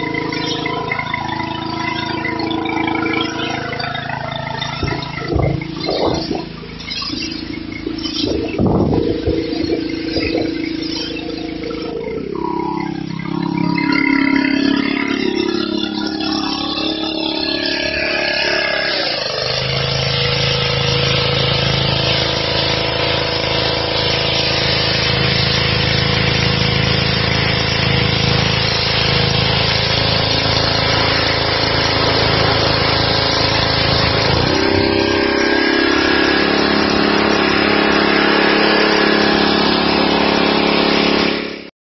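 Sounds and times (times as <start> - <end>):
pressure washer engine running: 0.0 - 41.7
water spraying onto paving: 0.0 - 41.7.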